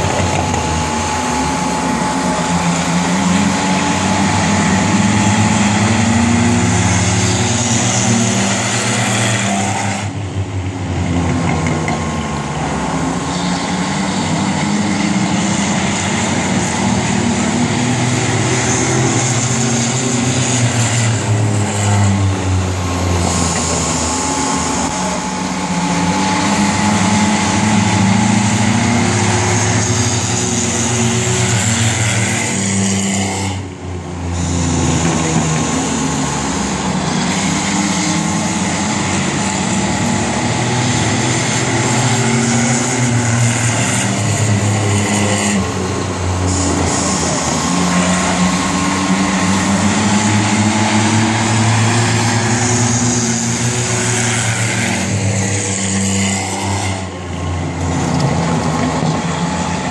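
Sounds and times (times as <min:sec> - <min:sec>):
race car engines passing: 0:00.0 - 0:59.9.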